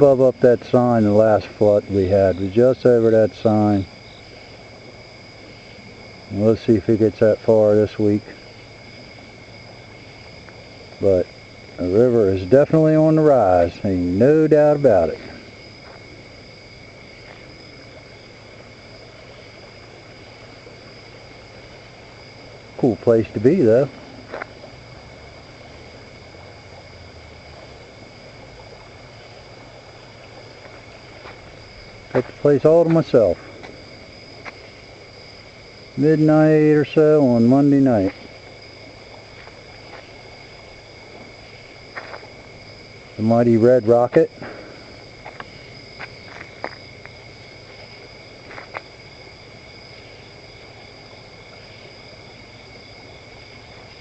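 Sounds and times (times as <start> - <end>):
low steady rumble: 0.0 - 43.9
crickets and insects trilling: 0.0 - 54.0.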